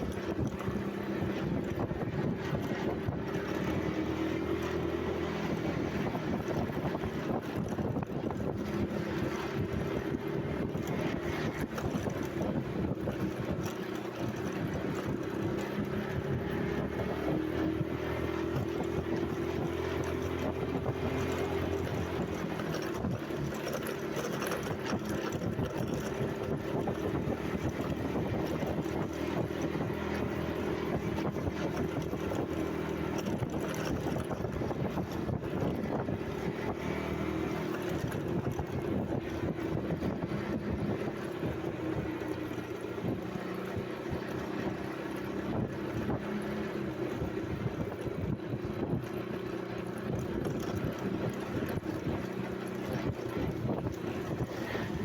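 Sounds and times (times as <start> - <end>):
engine drone: 0.0 - 55.0
wind noise on microphone: 0.0 - 55.0.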